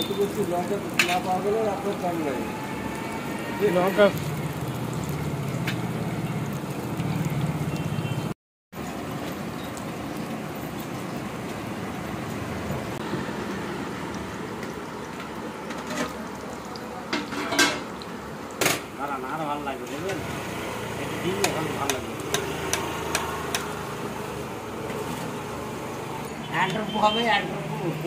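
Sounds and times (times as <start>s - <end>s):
deep-frying sizzle: 0.0s - 28.0s.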